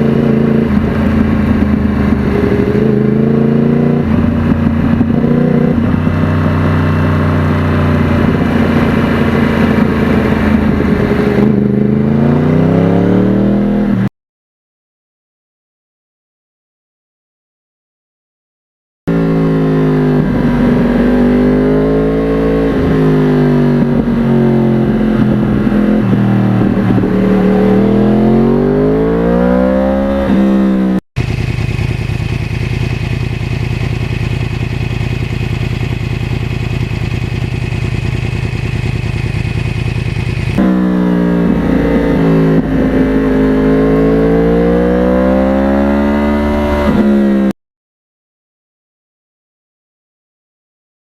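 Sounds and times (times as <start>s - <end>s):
motorcycle engine revving: 0.0s - 14.1s, 19.1s - 47.6s.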